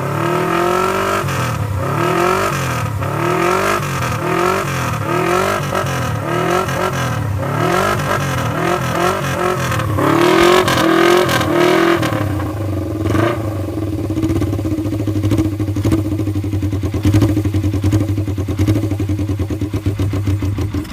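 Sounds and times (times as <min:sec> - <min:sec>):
motorcycle engine revving and idling: 0:00.0 - 0:20.9.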